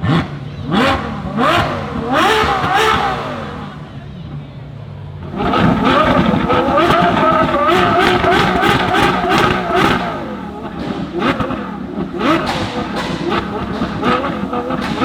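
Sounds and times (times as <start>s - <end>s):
exhaust cracks: 0.0s - 4.1s, 5.2s - 15.0s
sports car engine revving: 0.0s - 15.0s.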